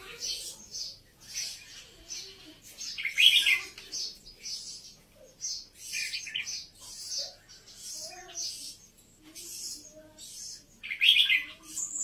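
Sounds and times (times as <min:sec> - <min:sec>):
bird chirping song: 0:00.0 - 0:12.0.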